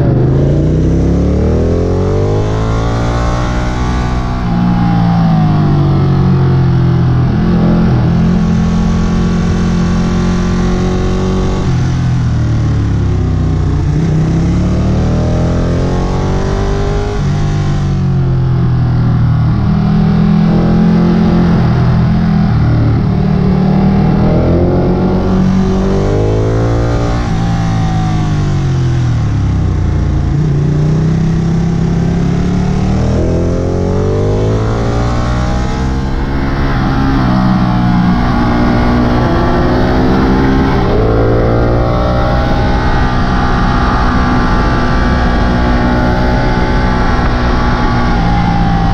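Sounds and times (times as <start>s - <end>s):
motorcycle engine revving: 0.0s - 48.9s
wind and road noise: 0.0s - 48.9s.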